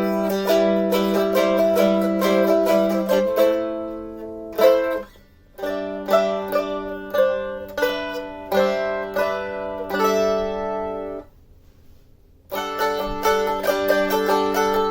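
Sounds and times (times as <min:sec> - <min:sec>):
mandolin chords strummed: 0:00.0 - 0:11.3, 0:12.5 - 0:14.9.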